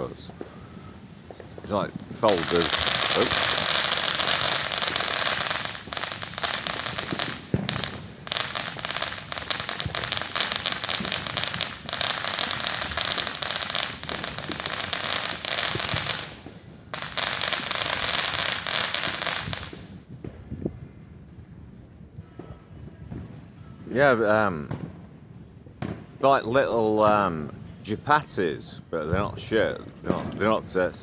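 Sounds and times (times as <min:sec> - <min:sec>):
fireworks crackling: 0:00.0 - 0:20.9, 0:22.8 - 0:31.0.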